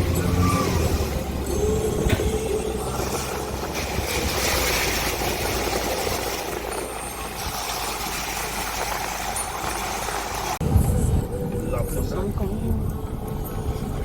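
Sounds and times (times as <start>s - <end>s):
road traffic noise: 0.0s - 14.0s
vehicle engine humming: 0.0s - 14.0s.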